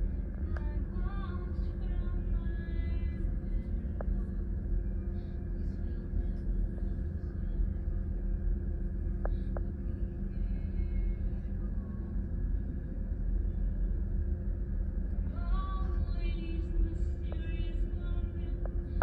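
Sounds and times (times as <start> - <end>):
ship engine rumble and hum: 0.0 - 19.0.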